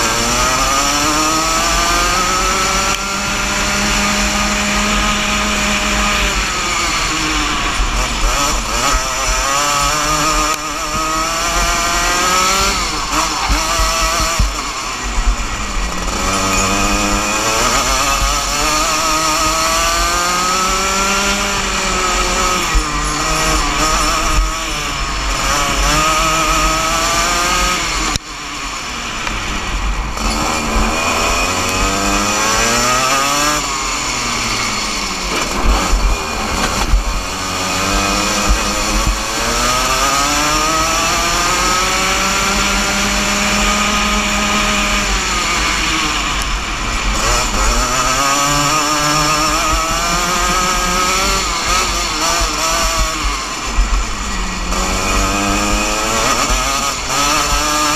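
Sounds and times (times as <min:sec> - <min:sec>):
kart engine racing: 0:00.0 - 0:57.9.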